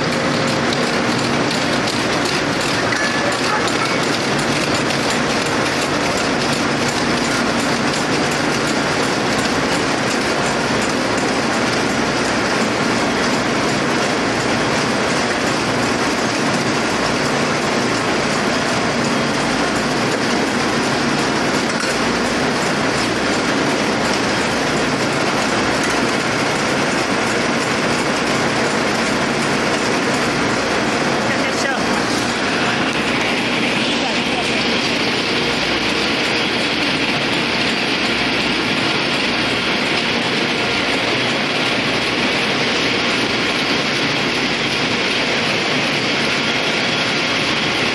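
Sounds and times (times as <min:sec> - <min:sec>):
winding machines clattering: 0:00.0 - 0:47.9.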